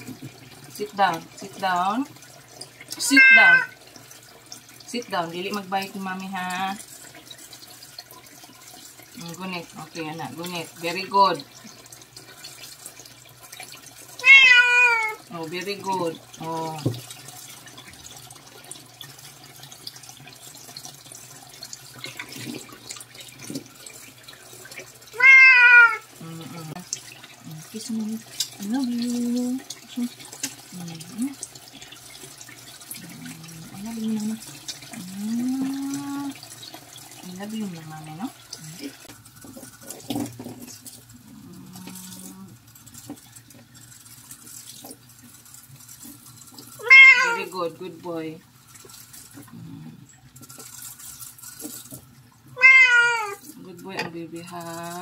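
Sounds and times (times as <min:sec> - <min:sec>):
faucet running into basin: 0:00.0 - 0:55.0
small water splashes: 0:00.0 - 0:55.0.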